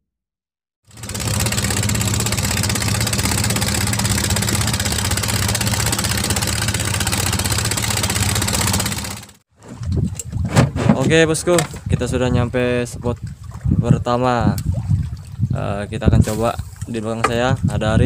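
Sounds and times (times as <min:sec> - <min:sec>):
boat engine running: 0:00.9 - 0:18.0.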